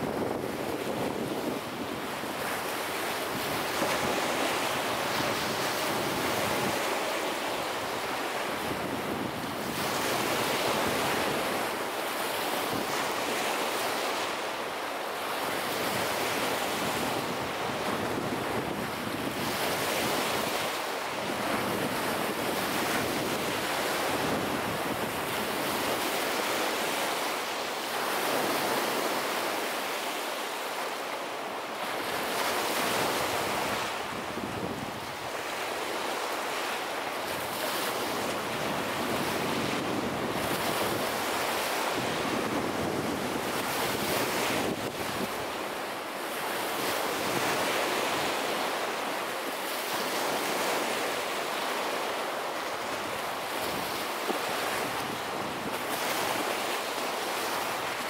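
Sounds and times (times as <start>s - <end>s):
waves breaking on a sandy beach: 0.0s - 58.0s.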